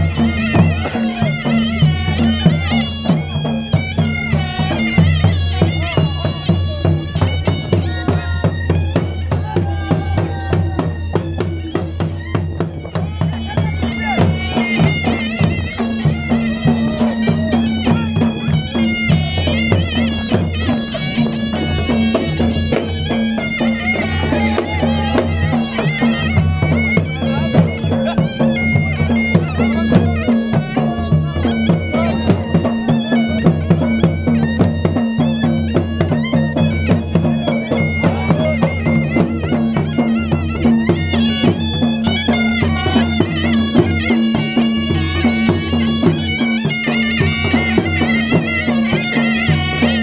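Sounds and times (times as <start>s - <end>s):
drum beating steady rhythm: 0.0s - 50.0s
shrill double-reed pipe melody: 0.0s - 50.0s.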